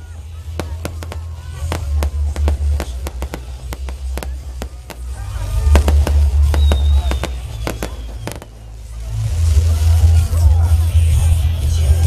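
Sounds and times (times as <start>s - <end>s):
fireworks banging and crackling: 0.0s - 10.9s.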